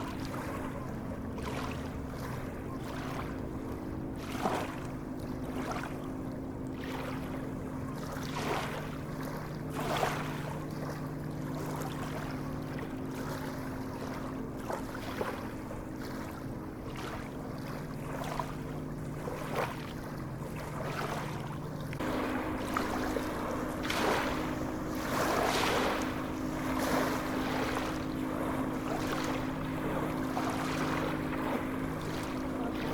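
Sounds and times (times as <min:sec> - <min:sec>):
sea waves washing: 0:00.0 - 0:06.0, 0:08.0 - 0:32.9
low mechanical hum: 0:00.0 - 0:32.9.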